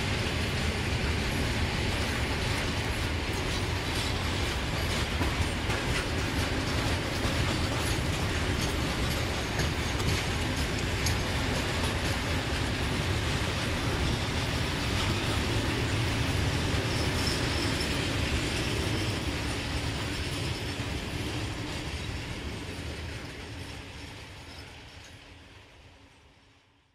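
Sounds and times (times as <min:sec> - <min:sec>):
freight wagons rolling on track: 0:00.0 - 0:25.6.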